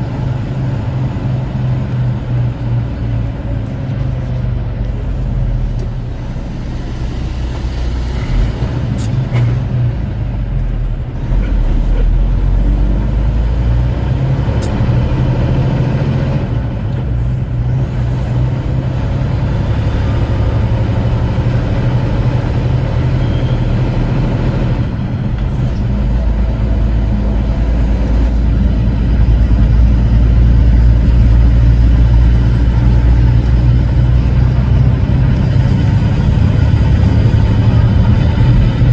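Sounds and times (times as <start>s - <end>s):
truck engine rumble from cab: 0.0s - 38.9s.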